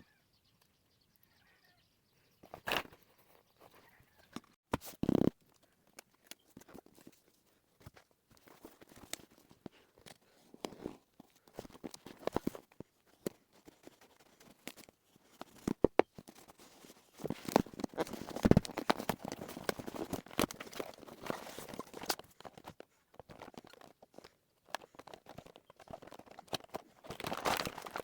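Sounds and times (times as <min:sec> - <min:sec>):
small objects clicking and rustling: 0:05.0 - 0:28.0.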